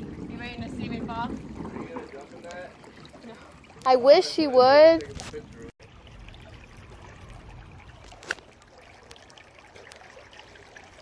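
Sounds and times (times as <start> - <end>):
creek water trickling: 0.0 - 11.0.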